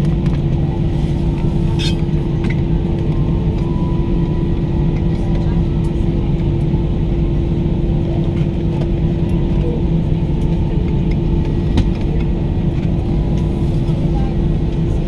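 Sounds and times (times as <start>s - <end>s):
aircraft cabin engine rumble: 0.0s - 15.0s
constant hum: 0.0s - 15.0s.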